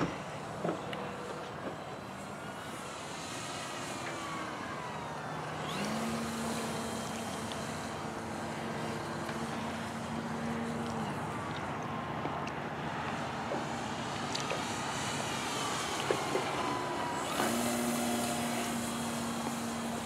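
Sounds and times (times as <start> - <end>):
model airplane motor whining: 0.0 - 12.0, 13.6 - 20.0.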